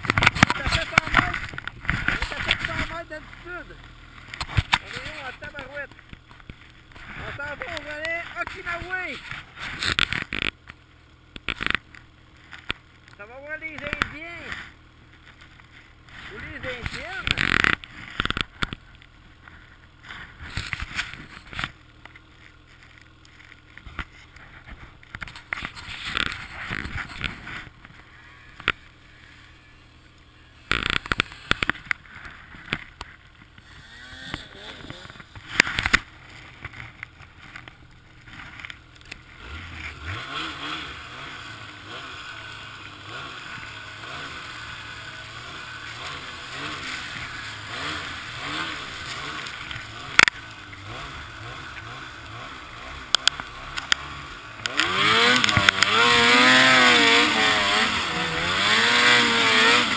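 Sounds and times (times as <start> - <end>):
snowmobile engine: 0.0 - 59.9.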